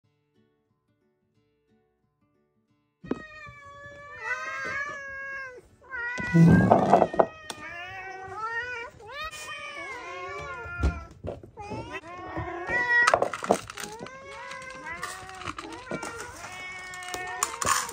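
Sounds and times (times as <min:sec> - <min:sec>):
cats meowing: 0:03.1 - 0:17.9.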